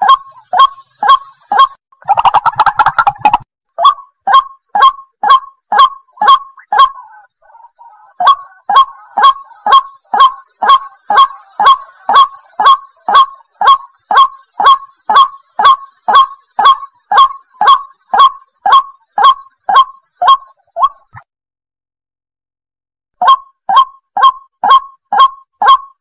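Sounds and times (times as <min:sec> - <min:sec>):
waterhen calling: 0:00.0 - 0:21.2.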